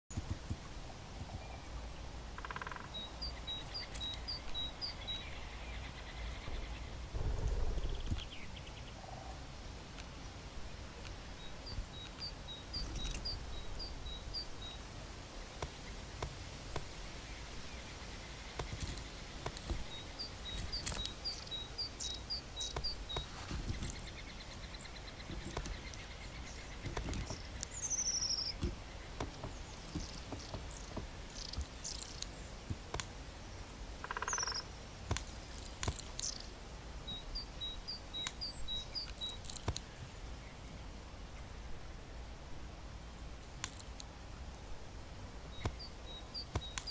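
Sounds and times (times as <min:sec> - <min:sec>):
low background hiss: 0:00.1 - 0:46.9.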